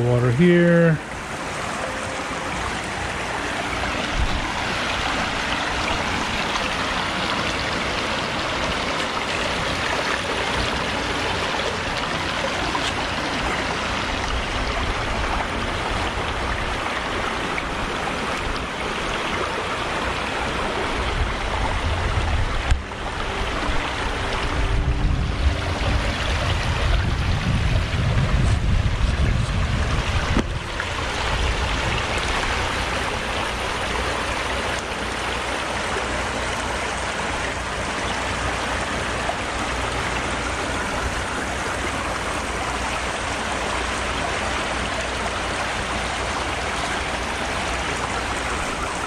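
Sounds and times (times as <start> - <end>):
stream water flowing: 0.0 - 49.0
wind rumble on microphone: 2.6 - 49.0.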